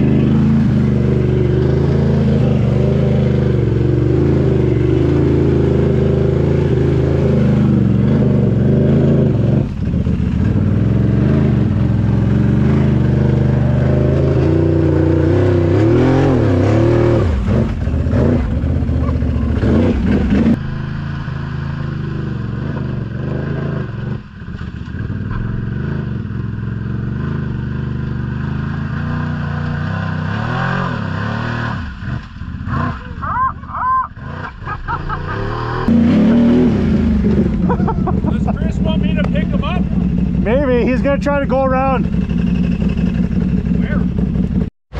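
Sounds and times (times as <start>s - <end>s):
atv engine revving: 0.0s - 44.7s.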